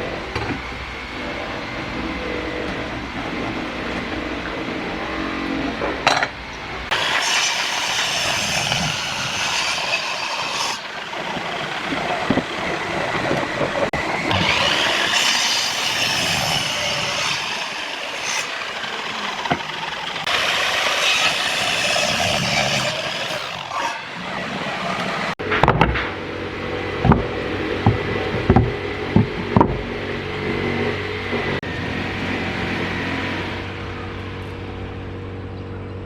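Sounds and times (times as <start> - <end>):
power tool working wood: 0.0 - 34.4.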